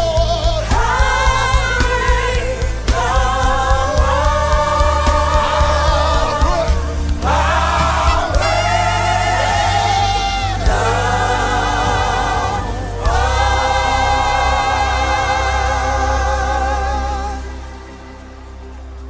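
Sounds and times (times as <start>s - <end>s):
choir singing gospel: 0.0s - 19.0s
low instrumental accompaniment: 0.0s - 19.0s.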